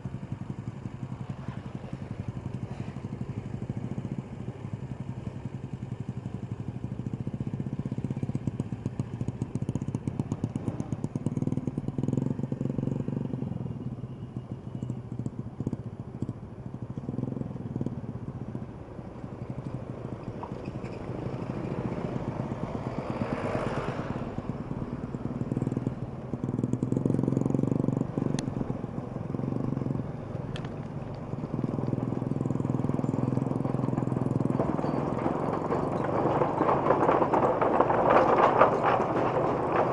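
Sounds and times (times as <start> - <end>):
motorcycle and vehicle engines passing: 0.0 - 39.9.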